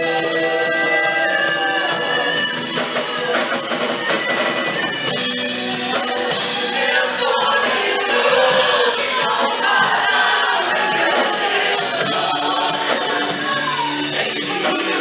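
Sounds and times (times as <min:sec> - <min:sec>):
voices singing worship song: 0:00.0 - 0:15.0
band with drums: 0:01.5 - 0:15.0.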